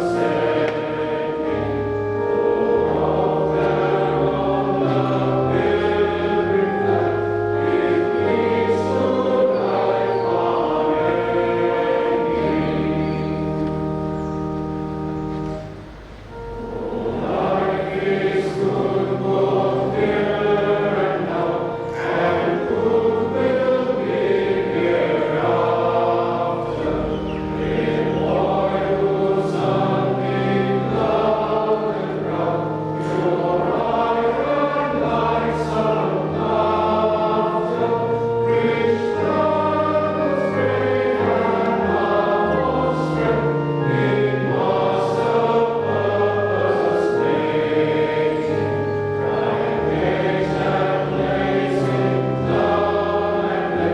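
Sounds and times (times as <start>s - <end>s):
congregation singing a hymn: 0.0s - 53.9s
organ holding low notes: 0.0s - 53.9s.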